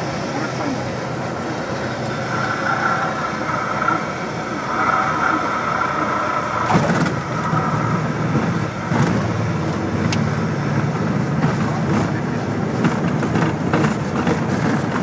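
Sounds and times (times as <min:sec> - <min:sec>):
propeller plane engine idling: 0:00.0 - 0:15.0
steady whine: 0:00.0 - 0:15.0.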